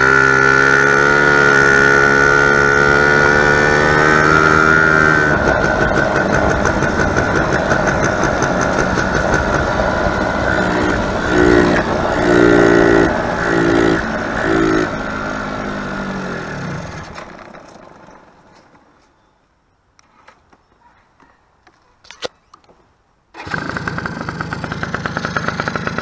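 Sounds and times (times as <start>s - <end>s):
two-stroke engine surging: 0.0s - 18.5s, 23.4s - 26.0s.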